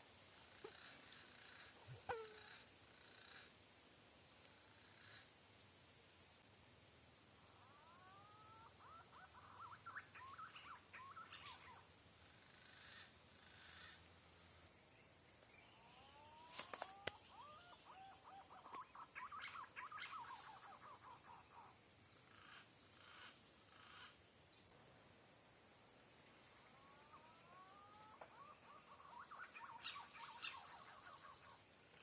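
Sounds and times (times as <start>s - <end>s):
high insect drone: 0.0s - 9.1s, 9.7s - 18.3s, 21.4s - 32.0s.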